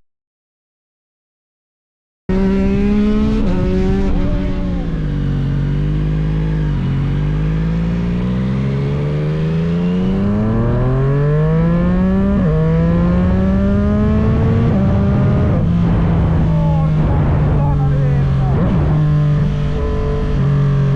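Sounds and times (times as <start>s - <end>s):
motorcycle engine accelerating: 2.3s - 20.9s.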